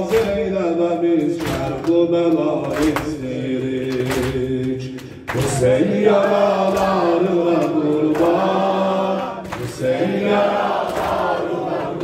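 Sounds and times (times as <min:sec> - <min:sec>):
voices chanting a lament: 0:00.0 - 0:12.0.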